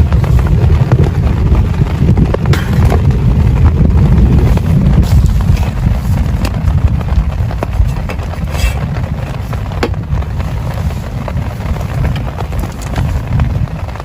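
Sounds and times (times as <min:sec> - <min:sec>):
heavy rain: 0:00.0 - 0:14.0
raindrops tapping: 0:00.0 - 0:14.0.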